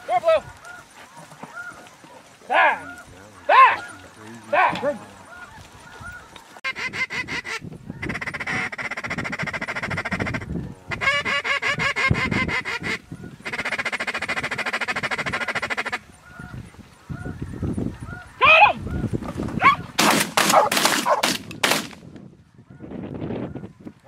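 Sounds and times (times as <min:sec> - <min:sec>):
flock of geese honking: 0:00.0 - 0:19.9.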